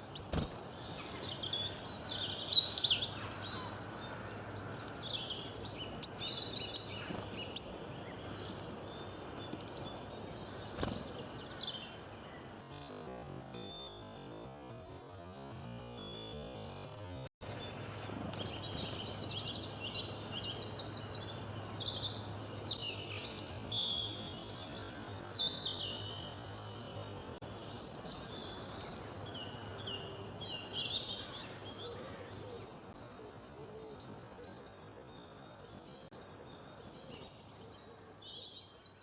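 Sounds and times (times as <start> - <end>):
bird trill: 0.0 - 39.0
birds chirping and singing: 0.0 - 39.0
outdoor background hiss: 0.0 - 39.0.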